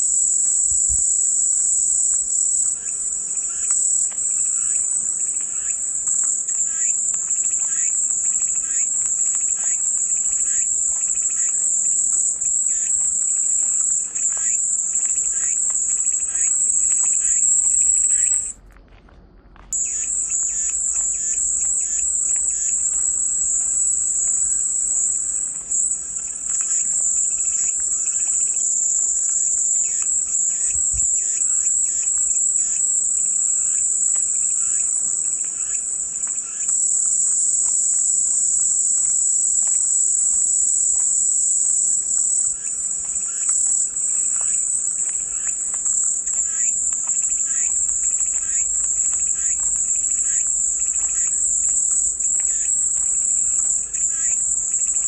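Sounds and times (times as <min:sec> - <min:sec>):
cicadas buzzing: 0:00.0 - 0:18.6, 0:19.6 - 0:55.0.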